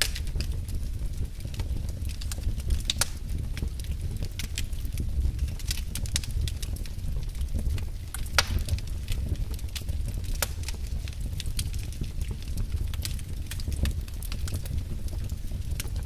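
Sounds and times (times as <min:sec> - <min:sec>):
fire crackling in a fireplace: 0:00.0 - 0:16.0
low rumble of flame: 0:00.0 - 0:16.0
sharp pops of fire: 0:00.0 - 0:16.0.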